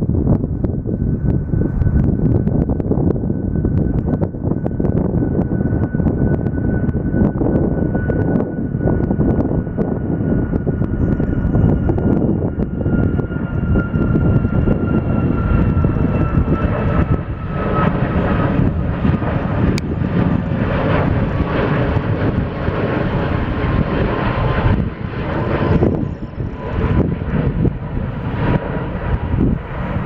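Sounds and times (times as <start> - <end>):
jet roar with whining tone: 0.0 - 30.0.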